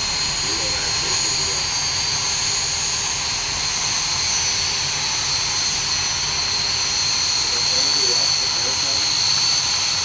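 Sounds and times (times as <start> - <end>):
jet engines roaring with whine: 0.0 - 10.0.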